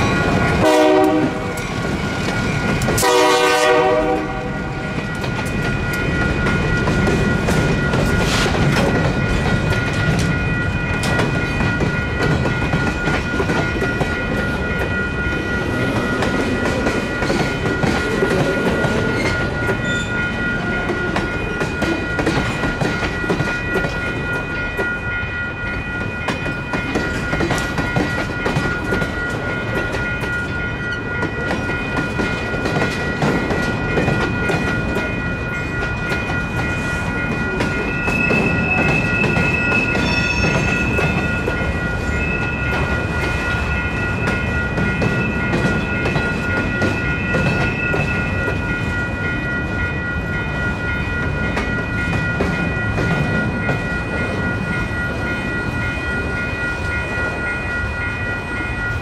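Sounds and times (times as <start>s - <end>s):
crossing bell ringing tones: 0.0s - 59.0s
freight train rumbling: 0.0s - 59.0s.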